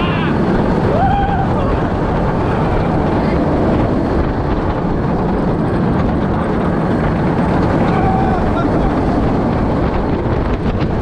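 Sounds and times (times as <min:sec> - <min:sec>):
roller coaster rumbling on track: 0:00.0 - 0:11.0
wind rushing on microphone: 0:00.0 - 0:11.0.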